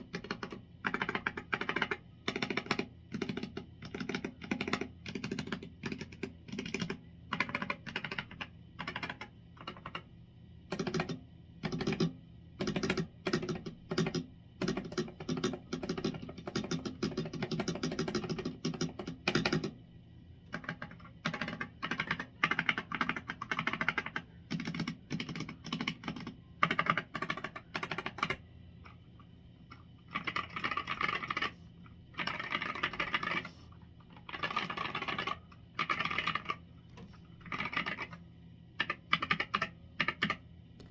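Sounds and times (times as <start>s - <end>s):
mechanical keyboard typing: 0.0s - 10.1s, 10.7s - 19.8s, 20.4s - 29.0s, 29.6s - 38.2s, 38.8s - 40.9s.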